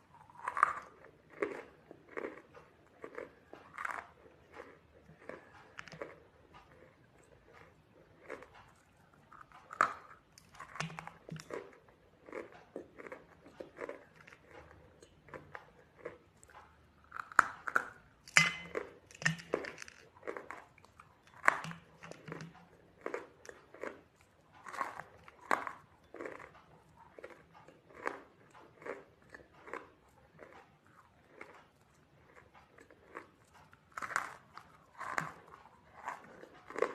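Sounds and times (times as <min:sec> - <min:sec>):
person chewing crunchy food: 0:00.0 - 0:36.9.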